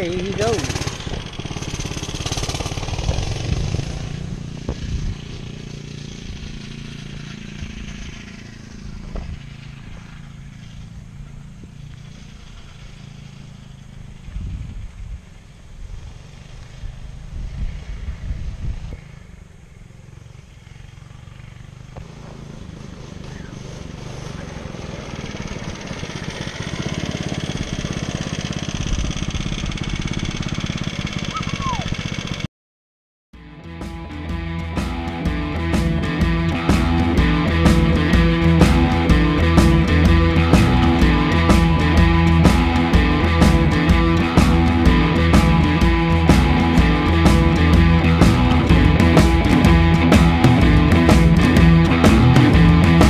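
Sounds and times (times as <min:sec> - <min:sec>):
go-kart engine running: 0:00.0 - 0:32.5, 0:34.1 - 0:53.0.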